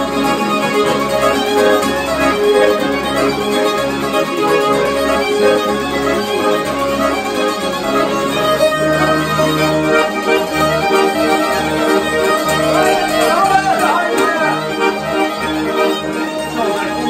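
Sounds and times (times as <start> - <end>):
accordion: 0.0 - 17.0
plucked lutes: 0.0 - 17.0
violin: 0.0 - 17.0.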